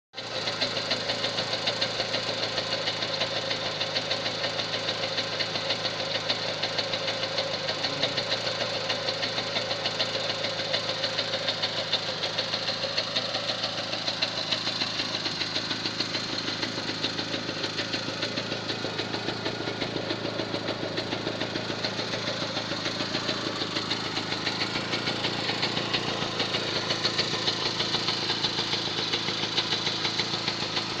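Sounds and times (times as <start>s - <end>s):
scooter engine idling: 0.2s - 31.0s.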